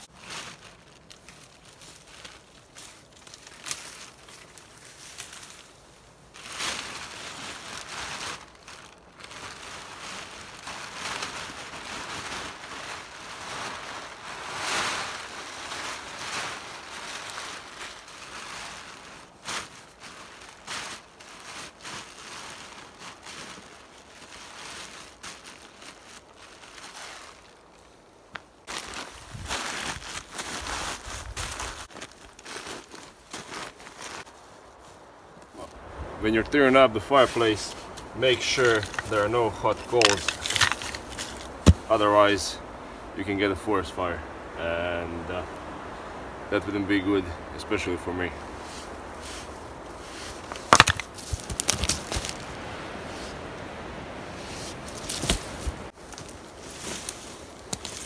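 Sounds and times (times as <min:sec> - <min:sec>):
plastic tarp rustling: 0:00.0 - 0:28.0, 0:28.6 - 0:35.7, 0:36.8 - 0:42.6, 0:48.2 - 0:53.4, 0:54.3 - 0:58.0.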